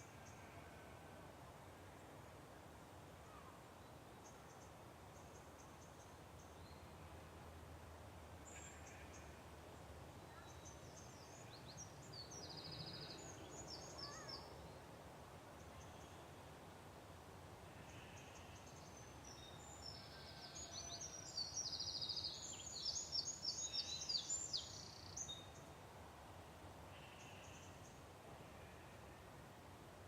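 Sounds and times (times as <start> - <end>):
faint birdsong chirps: 0.0 - 16.6, 17.6 - 29.4
steady low hiss: 0.0 - 30.0.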